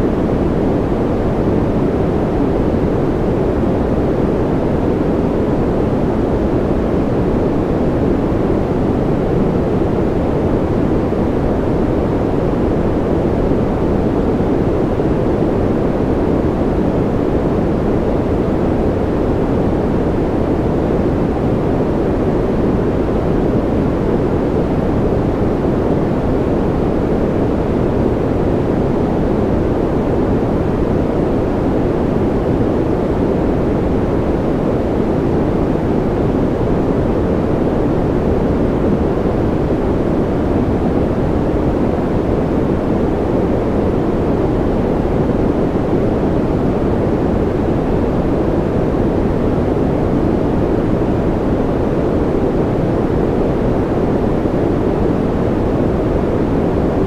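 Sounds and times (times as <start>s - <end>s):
deep white noise rush: 0.0s - 57.0s.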